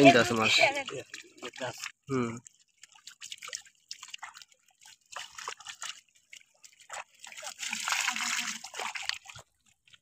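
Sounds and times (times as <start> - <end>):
fish splashing in a net: 0.5 - 9.8.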